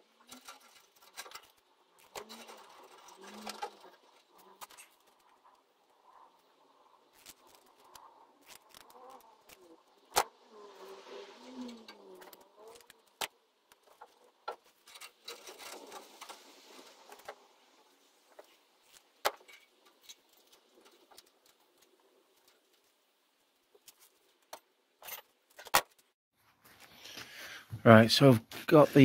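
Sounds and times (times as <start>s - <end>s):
light crinkling and rustling: 0.0s - 27.3s.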